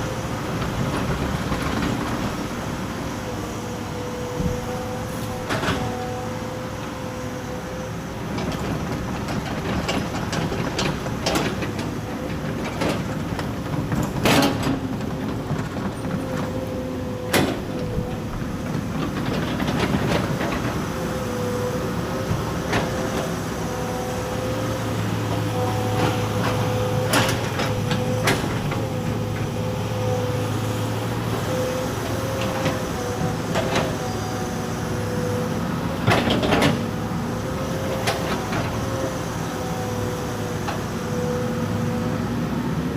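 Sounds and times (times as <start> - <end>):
excavator engine whining: 0.0 - 42.9.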